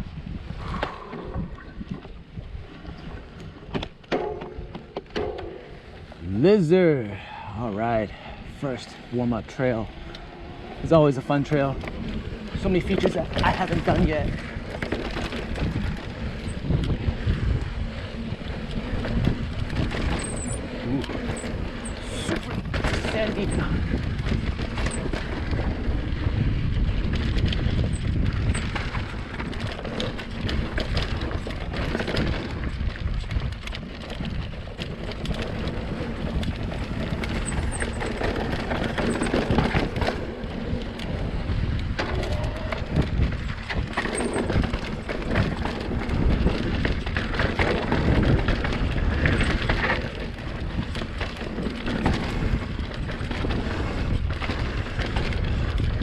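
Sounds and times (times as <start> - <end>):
bike rattling over bumps: 0.0 - 56.0
bike tyres rolling on loose ground: 0.0 - 56.0
wind on microphone: 0.0 - 56.0.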